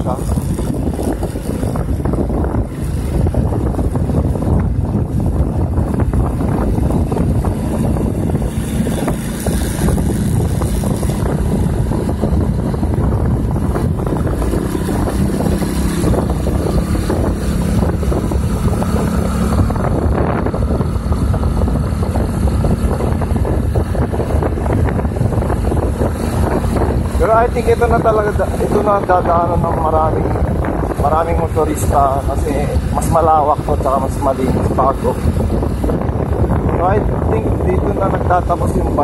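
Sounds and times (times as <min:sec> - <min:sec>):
vehicle running noise: 0:00.0 - 0:39.0
wind buffeting microphone: 0:00.0 - 0:39.0.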